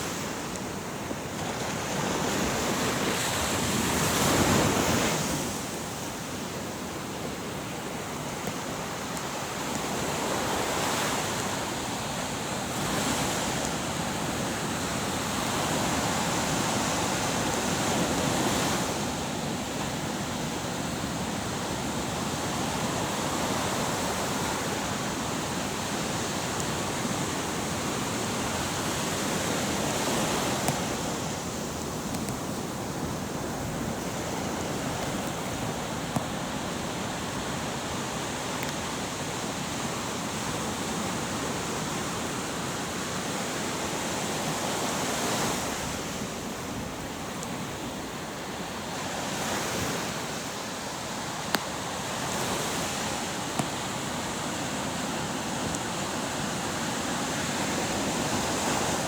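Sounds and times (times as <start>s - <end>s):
waves washing in: 0.0s - 59.0s.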